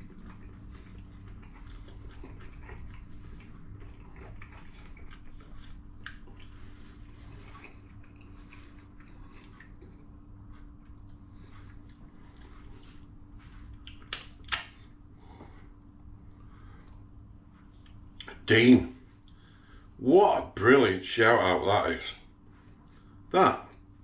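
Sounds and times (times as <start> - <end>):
man chewing food: 0.0 - 18.4, 19.0 - 20.0
steady low hum: 0.0 - 24.0.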